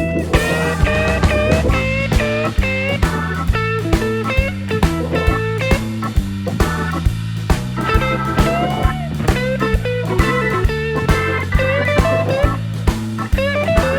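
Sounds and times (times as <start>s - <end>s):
blues-rock music: 0.0s - 13.9s.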